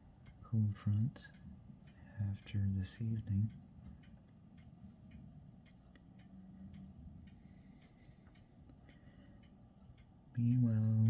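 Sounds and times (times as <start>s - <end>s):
faint light ticking: 0.0s - 11.0s.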